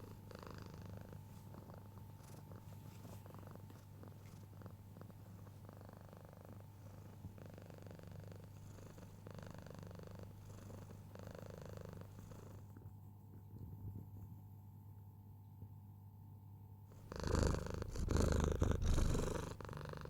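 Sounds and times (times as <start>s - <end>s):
cat purring: 0.0s - 14.3s, 17.0s - 20.0s.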